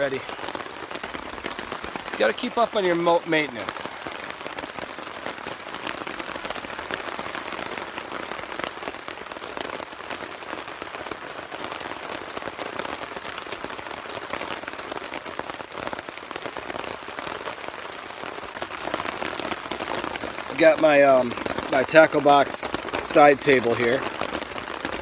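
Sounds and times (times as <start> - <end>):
rain on a nylon tarp: 0.0 - 25.0.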